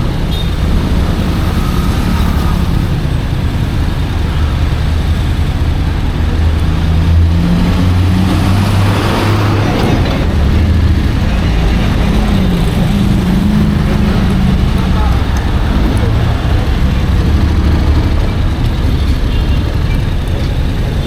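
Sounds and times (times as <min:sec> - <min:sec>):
motorcycle engine running: 0:00.0 - 0:21.0
wind and road rush: 0:00.0 - 0:21.0.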